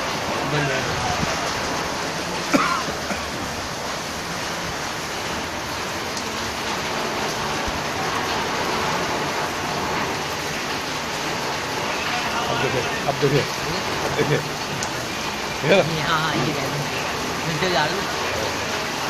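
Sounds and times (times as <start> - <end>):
heavy rain and hail pelting: 0.0 - 19.0.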